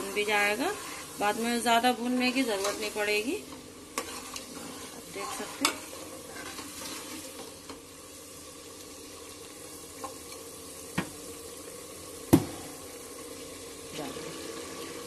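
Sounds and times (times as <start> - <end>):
spices sizzling in oil: 0.0 - 15.0.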